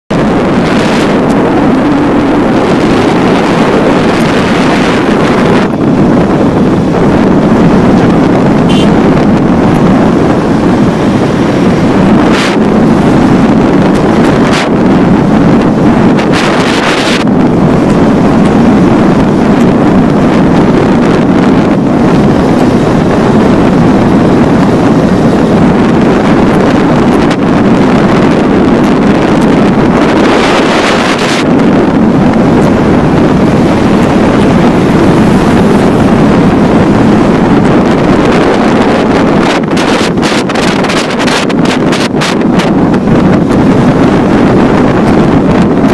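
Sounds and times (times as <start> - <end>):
motorcycle engine drone: 0.0 - 45.9
wind buffeting microphone: 0.1 - 45.9.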